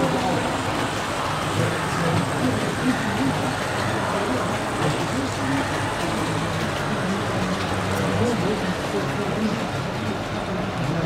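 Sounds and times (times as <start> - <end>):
crowd chatter: 0.0 - 11.0
distant voices: 0.0 - 11.0.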